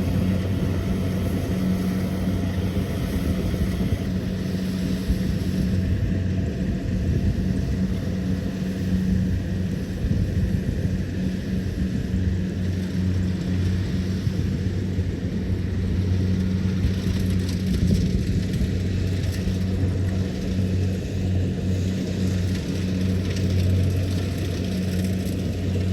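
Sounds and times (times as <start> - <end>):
combine harvester diesel engine: 0.0 - 25.9.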